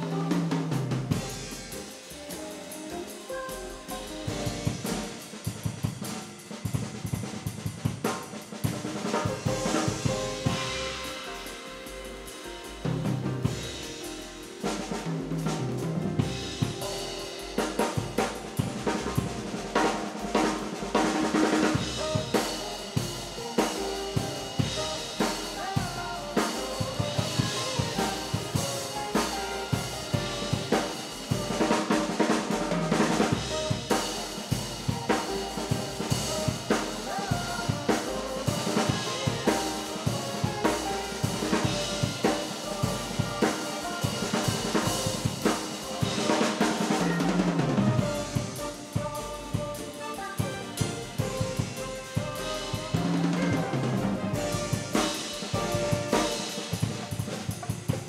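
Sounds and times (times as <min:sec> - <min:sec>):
jazz drum kit: 0:00.0 - 0:58.0
jazz ensemble backing track: 0:00.0 - 0:58.0.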